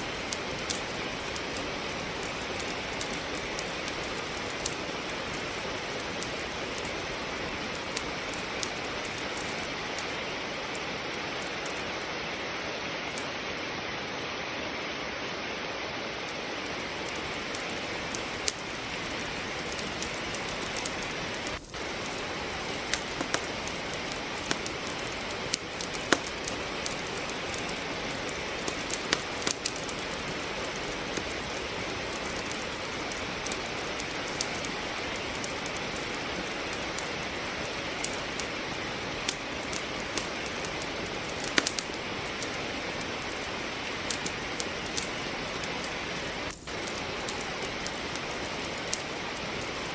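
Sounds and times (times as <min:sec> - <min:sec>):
firewood crackling in fireplace: 0:00.0 - 0:49.9
rain hiss: 0:00.0 - 0:49.9.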